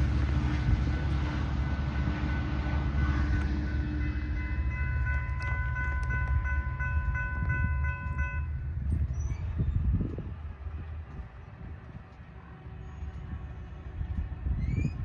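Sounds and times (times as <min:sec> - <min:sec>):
crossing warning bell ringing: 0:00.0 - 0:14.6
passenger train rumbling past: 0:00.0 - 0:15.0.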